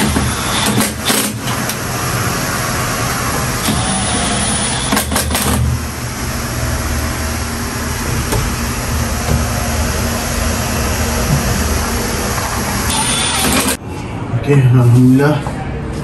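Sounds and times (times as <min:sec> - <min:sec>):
cordless driver running: 0:00.0 - 0:13.8
steady low hum: 0:00.0 - 0:14.5.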